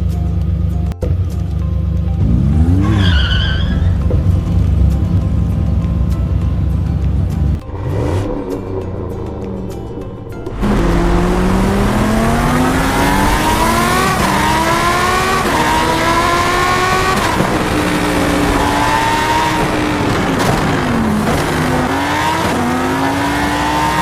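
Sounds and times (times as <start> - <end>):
car engine accelerating hard: 2.1 - 24.0.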